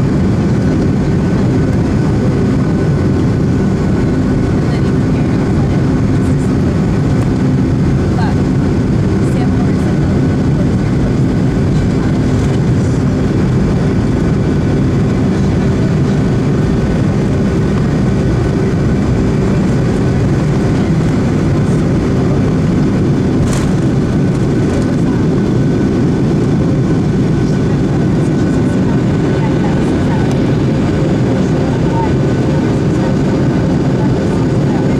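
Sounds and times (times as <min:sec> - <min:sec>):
jet engines droning: 0:00.0 - 0:34.9.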